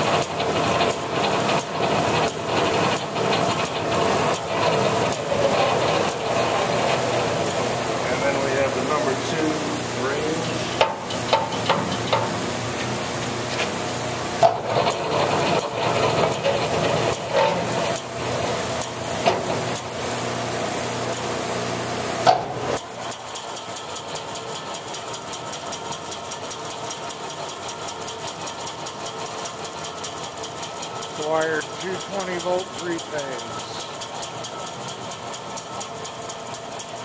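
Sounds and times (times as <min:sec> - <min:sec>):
bandsaw running: 0:00.0 - 0:21.9, 0:22.7 - 0:37.0.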